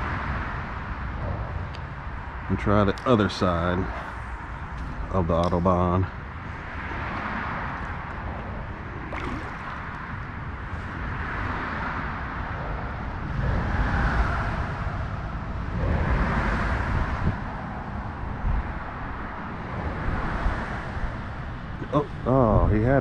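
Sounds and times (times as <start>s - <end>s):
motorway traffic rushing: 0.0s - 23.0s
vehicles passing by: 0.0s - 23.0s.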